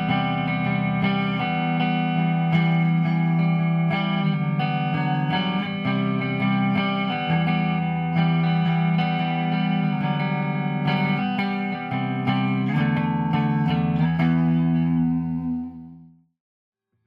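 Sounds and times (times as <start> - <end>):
electric guitar riff: 0.0 - 16.1.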